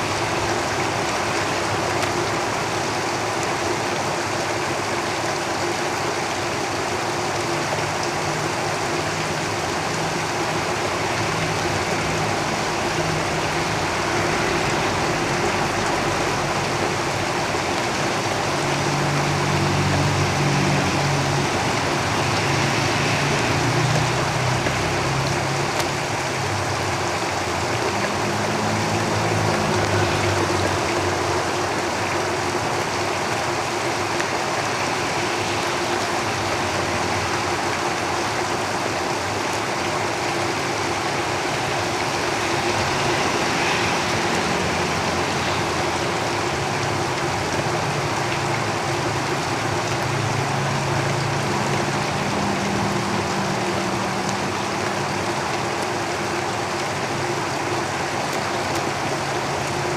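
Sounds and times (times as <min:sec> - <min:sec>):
heavy rain on a roof: 0:00.0 - 0:59.9
road vehicles rumbling past: 0:00.0 - 0:59.9.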